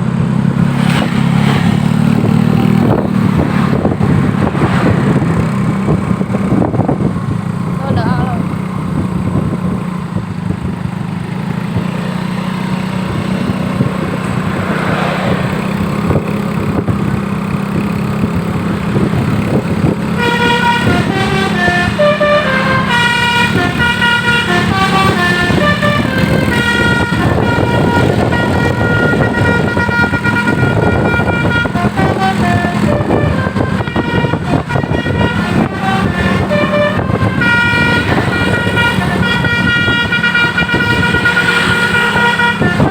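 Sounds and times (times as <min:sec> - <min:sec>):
bus engine hum: 0:00.0 - 0:42.9
bus horn playing melody: 0:00.9 - 0:07.0, 0:12.8 - 0:17.1, 0:17.8 - 0:42.9.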